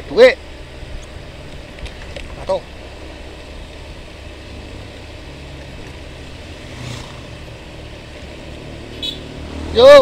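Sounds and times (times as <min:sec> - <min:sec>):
wind and road noise: 0:00.0 - 0:10.0
scooter engine running: 0:00.4 - 0:10.0.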